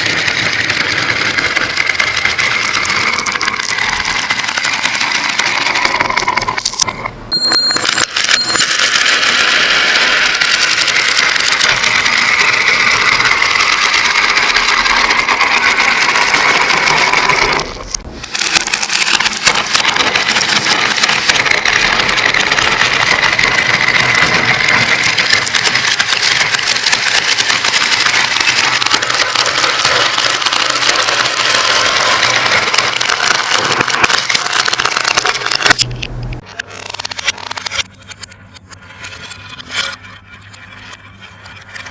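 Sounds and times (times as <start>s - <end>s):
marbles clattering down marble run: 0.0s - 35.9s, 36.7s - 41.9s.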